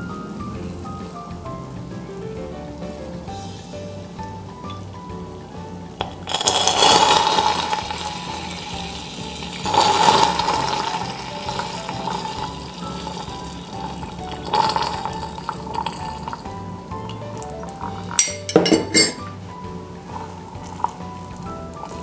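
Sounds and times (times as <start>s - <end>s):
hot syrup hissing and sputtering: 3.2s - 22.0s.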